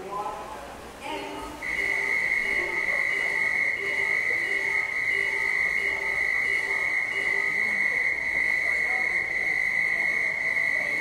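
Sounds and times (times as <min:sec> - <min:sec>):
high-pitched continuous tone: 0:01.0 - 0:11.0
low pulsing beep: 0:01.6 - 0:11.0.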